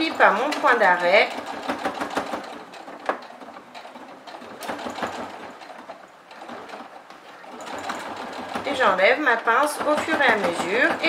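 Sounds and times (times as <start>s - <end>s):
electric sewing machine running: 0.0s - 11.0s.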